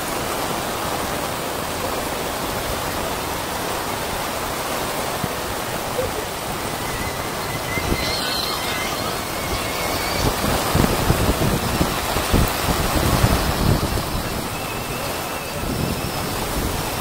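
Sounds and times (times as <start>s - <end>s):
heavy rain pouring: 0.0s - 17.0s
wind rumbling on microphone: 0.0s - 17.0s.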